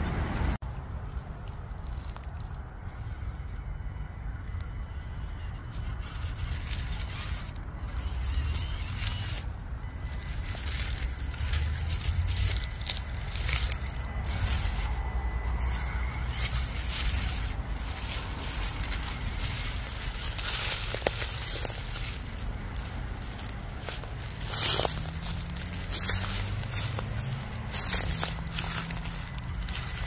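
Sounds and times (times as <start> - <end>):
steady low rumble: 0.0 - 30.0
track ballast stones crunching: 0.1 - 30.0.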